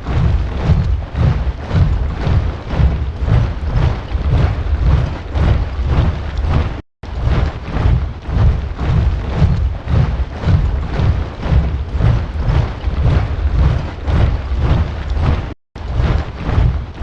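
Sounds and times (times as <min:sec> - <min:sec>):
soldiers' boots marching in step: 0:00.0 - 0:16.8.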